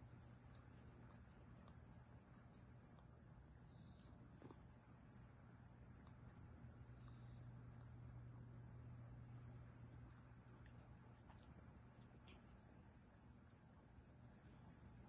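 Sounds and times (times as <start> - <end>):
faint high-pitched hiss: 0.0 - 15.0.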